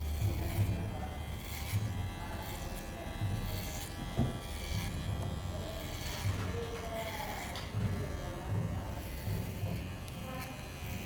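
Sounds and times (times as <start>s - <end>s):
electric hair clippers buzzing: 0.0s - 11.0s.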